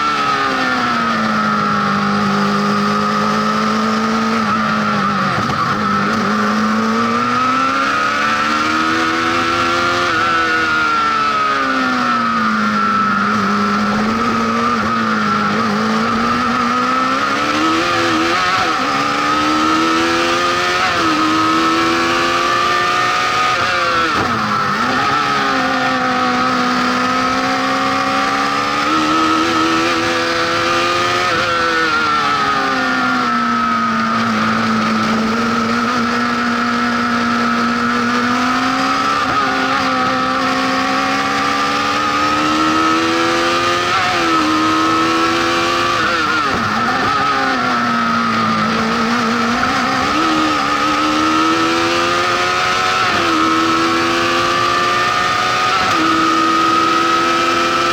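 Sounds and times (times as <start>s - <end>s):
motorcycle engine running hard: 0.0s - 57.9s.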